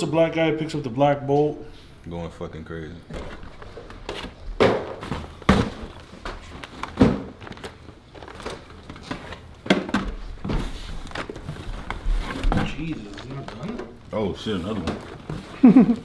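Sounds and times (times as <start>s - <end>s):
boxes knocking and thumping: 3.0s - 16.0s
packaging rustling: 3.0s - 16.0s.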